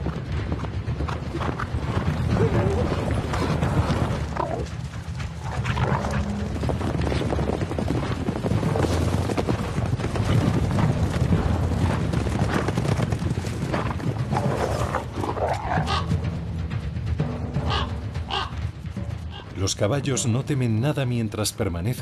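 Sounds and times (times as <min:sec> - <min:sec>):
horses galloping: 0:00.0 - 0:22.0.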